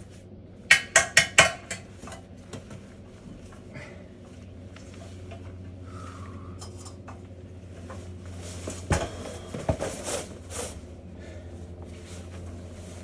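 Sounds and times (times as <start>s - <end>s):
clothes dryer humming: 0.0s - 13.0s.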